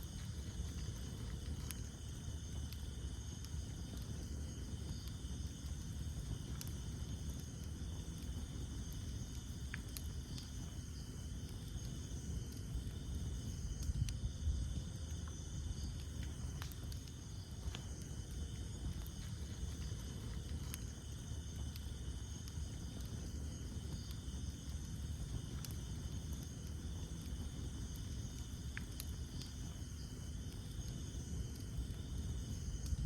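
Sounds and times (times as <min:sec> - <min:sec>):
campfire crackling and popping: 0:00.0 - 0:33.0
insects chirring: 0:00.0 - 0:33.0.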